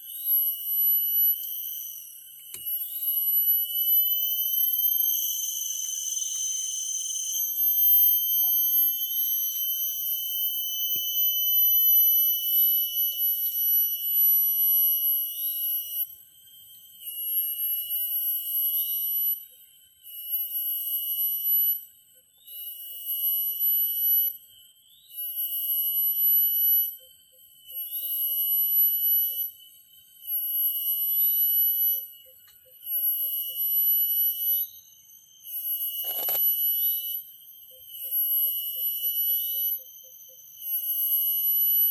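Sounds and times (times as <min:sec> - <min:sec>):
cicadas shrilling: 0:00.0 - 0:41.9.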